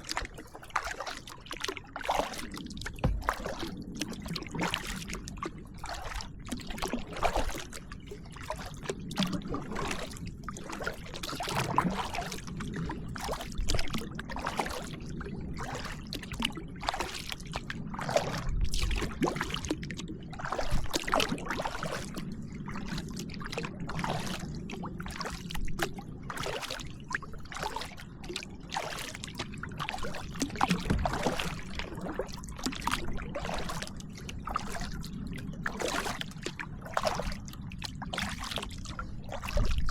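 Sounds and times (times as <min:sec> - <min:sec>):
paddle splashing in water: 0:00.0 - 0:39.9
water trickling off paddle: 0:00.0 - 0:39.9.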